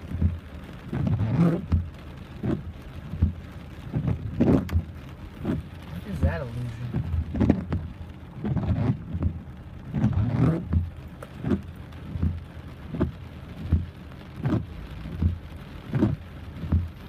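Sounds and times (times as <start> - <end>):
regular low thump: 0.0 - 5.9, 6.8 - 17.0
steady rain: 0.0 - 17.0.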